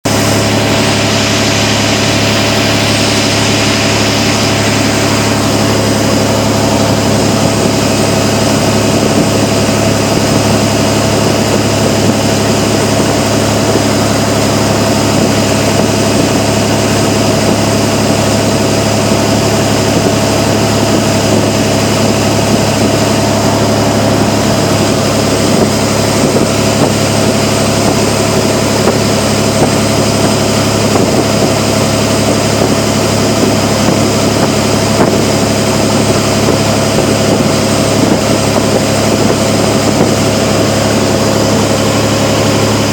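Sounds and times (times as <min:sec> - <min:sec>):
speedboat engine droning: 0:00.0 - 0:42.9.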